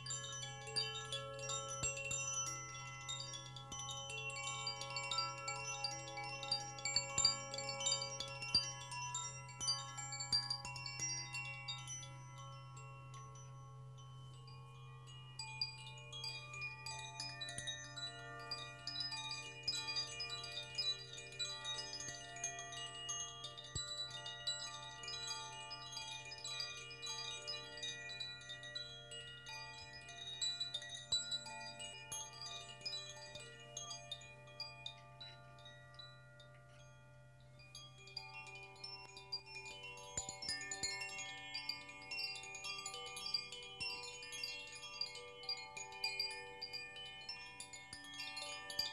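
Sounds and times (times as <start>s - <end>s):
metal wind chimes tinkling: 0.0s - 48.9s.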